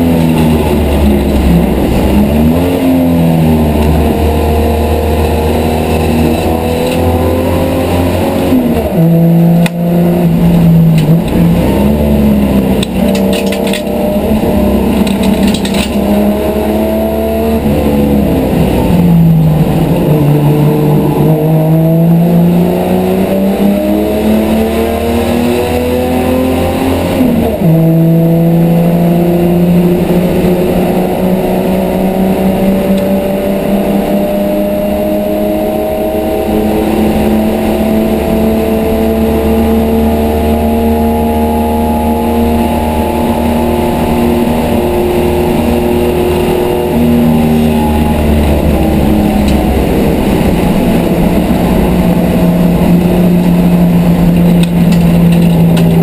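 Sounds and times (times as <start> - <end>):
race car engine from inside cabin: 0.0 - 56.0.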